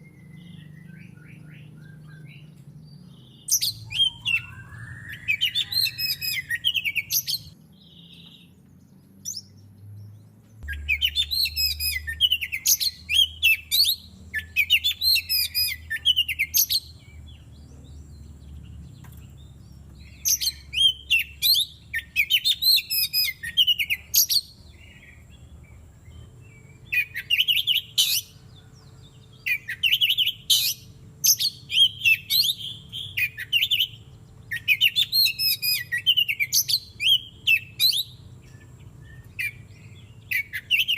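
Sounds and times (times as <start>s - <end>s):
bird singing whistles and chatter: 0.0s - 8.5s, 10.6s - 18.3s, 19.1s - 25.4s, 26.4s - 40.9s.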